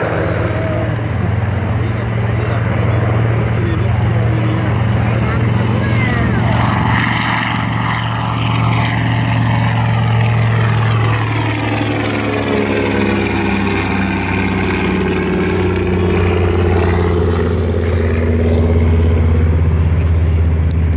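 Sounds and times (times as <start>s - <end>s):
propeller plane flying past: 0.0s - 20.9s.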